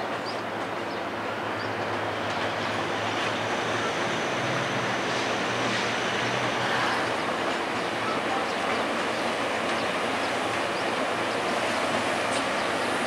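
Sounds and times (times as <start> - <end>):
train engine hum: 0.0 - 13.0
train running noise: 0.0 - 13.0.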